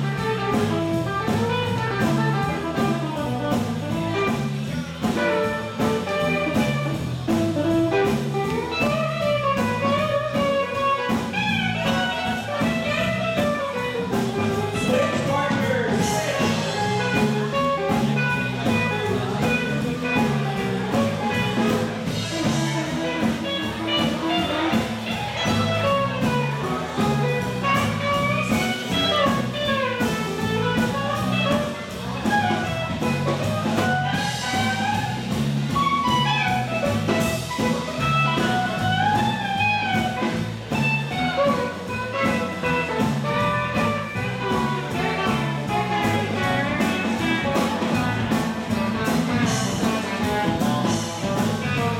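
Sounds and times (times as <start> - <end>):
electric guitar lead line: 0.0 - 51.9
swing band playing jazz-blues: 0.0 - 51.9.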